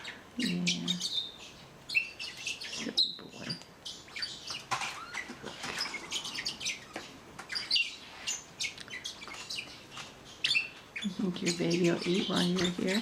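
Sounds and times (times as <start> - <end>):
parakeets chirping: 0.0 - 13.0.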